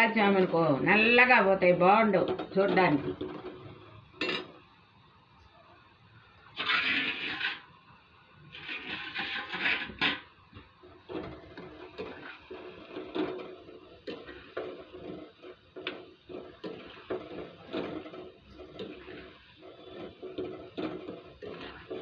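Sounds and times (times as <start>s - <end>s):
oil sizzling and bubbling: 0.0s - 22.0s.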